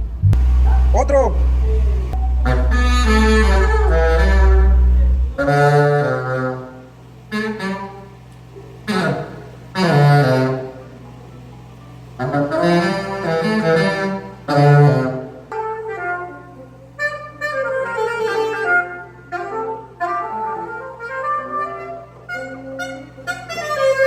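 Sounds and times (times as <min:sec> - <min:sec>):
saxophone through pa system: 0:00.0 - 0:24.0.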